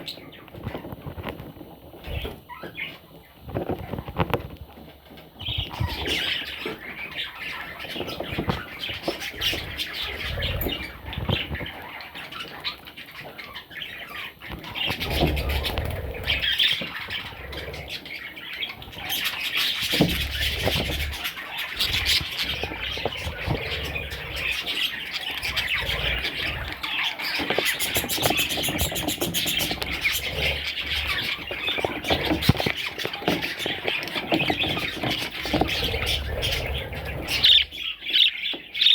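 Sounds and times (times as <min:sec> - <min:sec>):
budgerigars chattering: 0:05.4 - 0:38.9.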